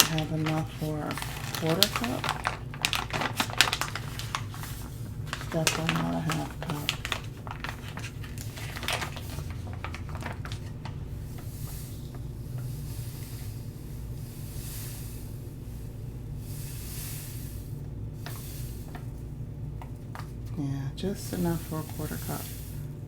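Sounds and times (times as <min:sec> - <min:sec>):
granules pouring into a cup: 0:00.0 - 0:19.6, 0:21.1 - 0:23.0
steady low hum: 0:00.0 - 0:23.0.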